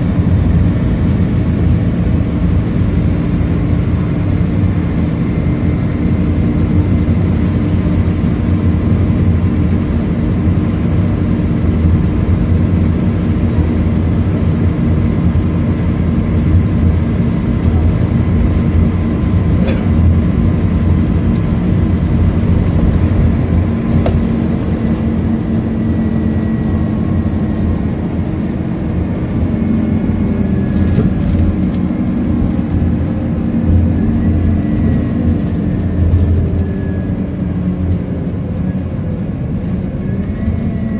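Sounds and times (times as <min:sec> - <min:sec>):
bus engine and road noise: 0:00.0 - 0:40.9.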